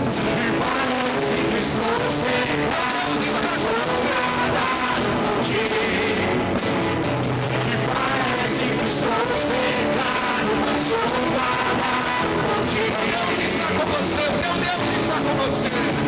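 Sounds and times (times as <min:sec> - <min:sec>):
band playing: 0:00.0 - 0:16.0
voices singing: 0:00.0 - 0:16.0.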